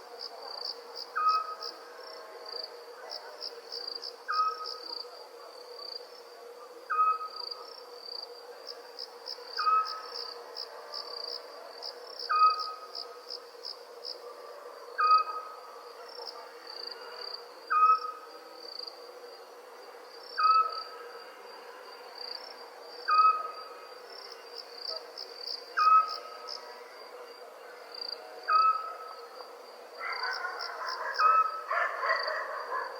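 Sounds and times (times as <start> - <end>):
crickets trilling: 0.0 - 32.9.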